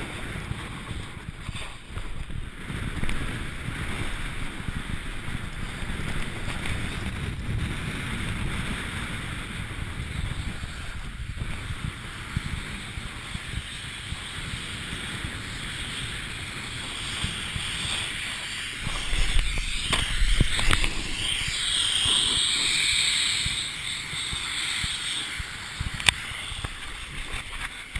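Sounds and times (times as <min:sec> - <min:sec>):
skis sliding on snow: 0:00.0 - 0:27.9
wind buffeting microphone: 0:00.0 - 0:27.9.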